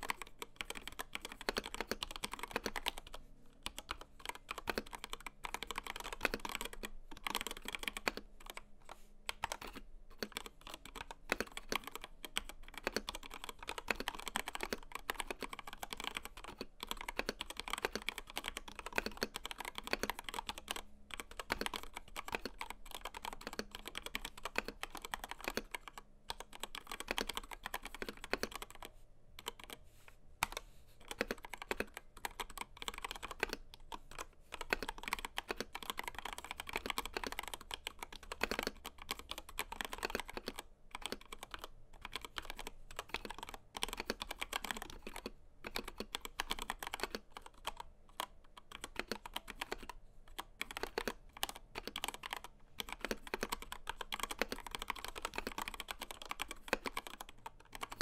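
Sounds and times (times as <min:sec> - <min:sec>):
mechanical keyboard typing: 0:00.0 - 0:29.8, 0:30.4 - 0:58.0.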